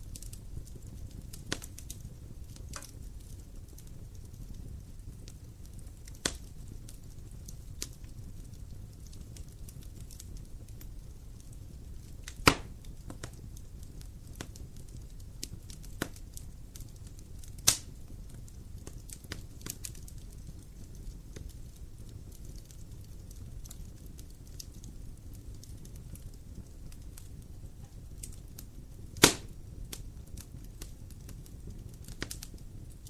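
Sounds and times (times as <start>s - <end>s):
loud pops of burning wood: 0.0s - 33.0s
wood fire rumbling and crackling: 0.0s - 33.0s.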